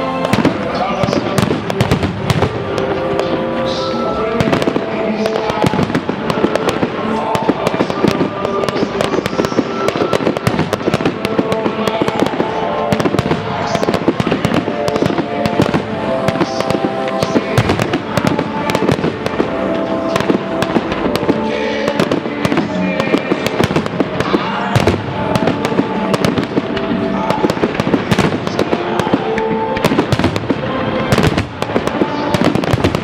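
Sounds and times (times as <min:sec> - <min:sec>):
fireworks bangs and crackles: 0:00.0 - 0:33.0
music playing: 0:00.0 - 0:33.0.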